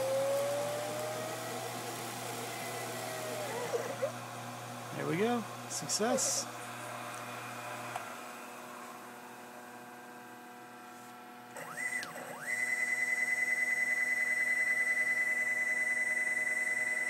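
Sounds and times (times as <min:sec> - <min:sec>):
machine motors whining: 0:00.0 - 0:09.2, 0:11.5 - 0:17.0.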